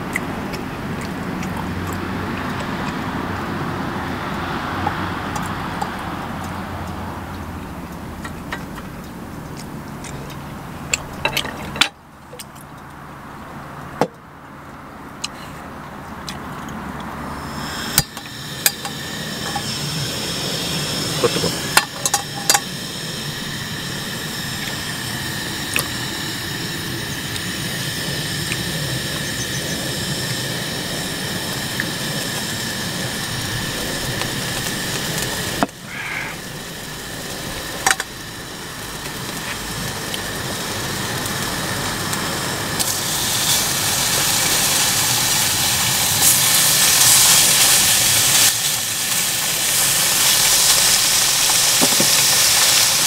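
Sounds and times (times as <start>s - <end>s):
camp stove hissing: 0.0s - 13.8s, 17.0s - 53.0s.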